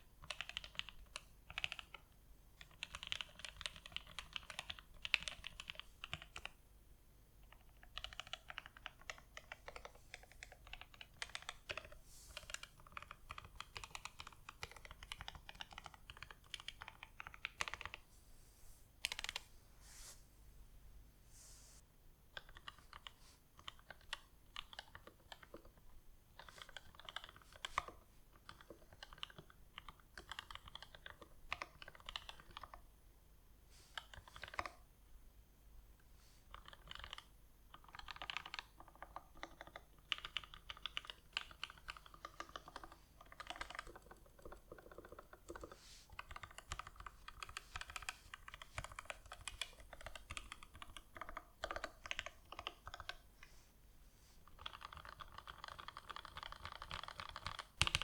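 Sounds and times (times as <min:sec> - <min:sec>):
mechanical keyboard typing: 0:00.2 - 0:06.6, 0:07.4 - 0:18.0, 0:19.0 - 0:19.4, 0:22.3 - 0:32.8, 0:33.9 - 0:34.8, 0:36.5 - 0:53.3, 0:54.5 - 0:58.0.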